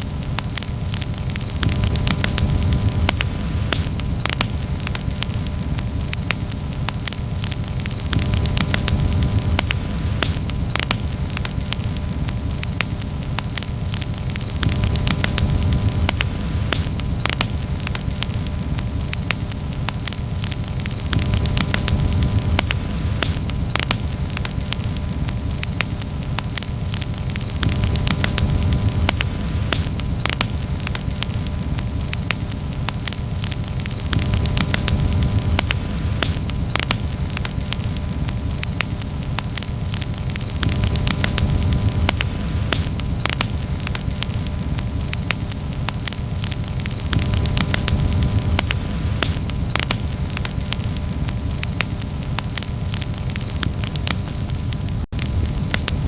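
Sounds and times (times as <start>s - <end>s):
campfire crackling: 0.0s - 56.0s
low rumble of flame: 0.0s - 56.0s
sharp pops and snaps: 0.0s - 56.0s.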